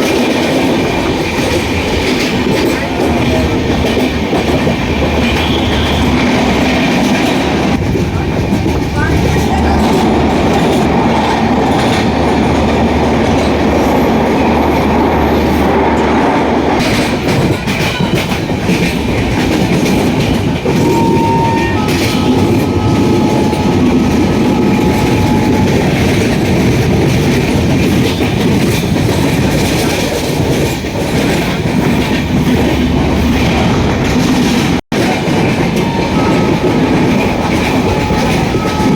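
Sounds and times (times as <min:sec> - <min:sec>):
train rumble: 0:00.0 - 0:38.9
wheels clacking over rail joints: 0:00.0 - 0:38.9.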